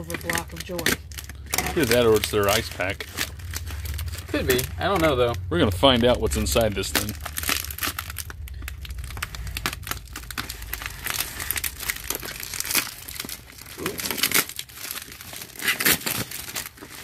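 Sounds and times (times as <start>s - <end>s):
foil mailer crinkling and tearing: 0.0s - 17.0s.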